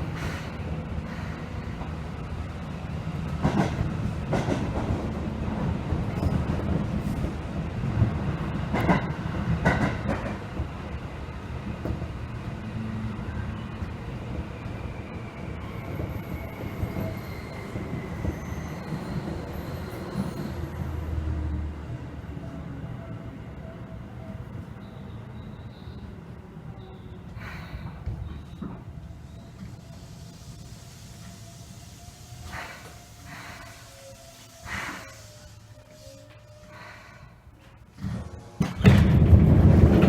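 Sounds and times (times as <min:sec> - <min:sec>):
electric train rumbling: 0:00.0 - 0:40.0.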